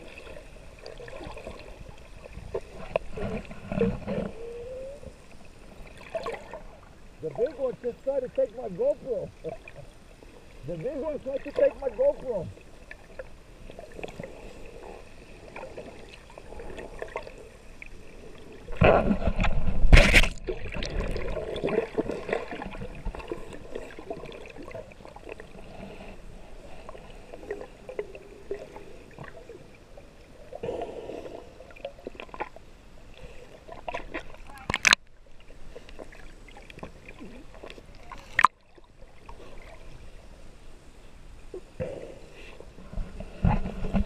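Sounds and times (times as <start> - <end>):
muffled underwater sloshing: 0.0 - 44.0.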